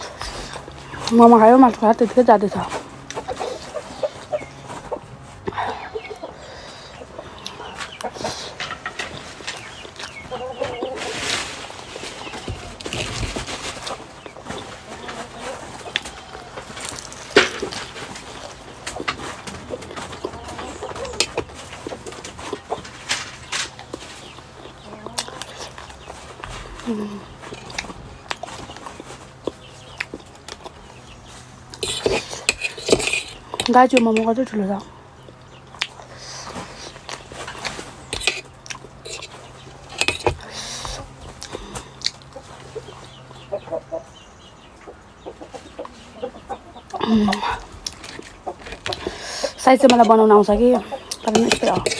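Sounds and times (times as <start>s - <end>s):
chewing and crunching food: 0.0s - 43.6s, 44.8s - 51.9s
chickens clucking: 0.0s - 51.9s.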